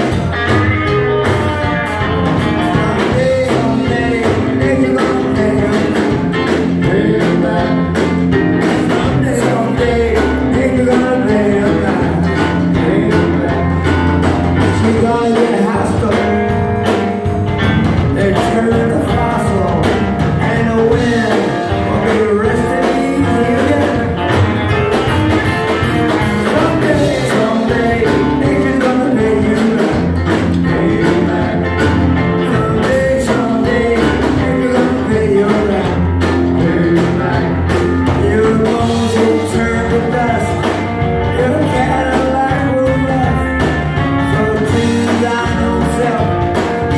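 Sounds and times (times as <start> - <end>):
electric guitar: 0.0 - 46.9
rock band playing live: 0.0 - 46.9.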